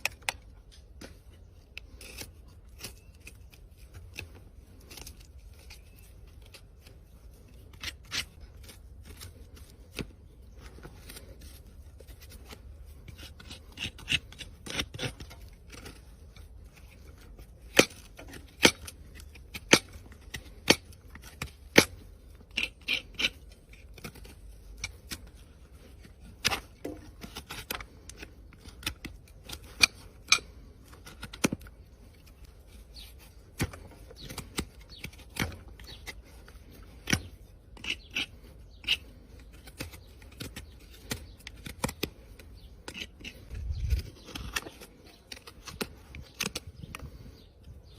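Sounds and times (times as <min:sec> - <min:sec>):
hoof trimming tools snipping: 0:00.0 - 0:47.9.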